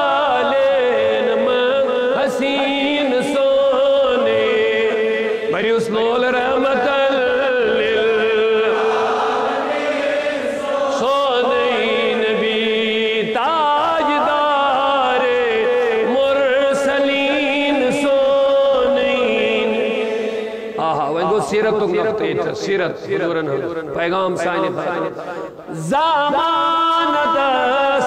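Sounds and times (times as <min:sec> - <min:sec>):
man chanting: 0:00.0 - 0:09.0, 0:10.9 - 0:28.0.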